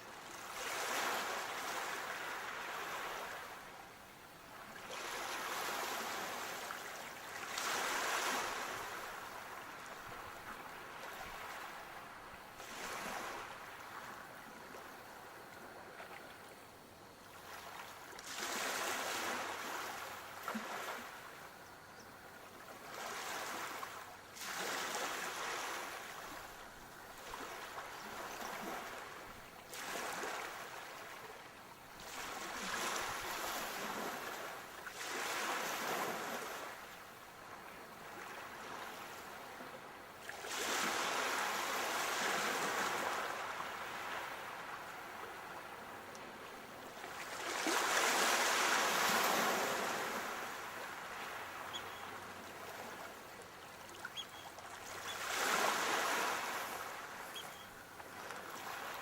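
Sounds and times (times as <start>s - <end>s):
sea waves breaking on shore: 0.0s - 3.8s, 4.4s - 16.6s, 17.2s - 21.6s, 22.4s - 59.0s.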